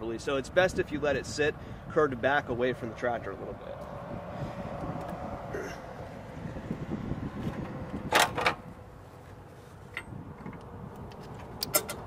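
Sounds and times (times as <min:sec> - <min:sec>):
low steady rumble: 0:00.1 - 0:12.0.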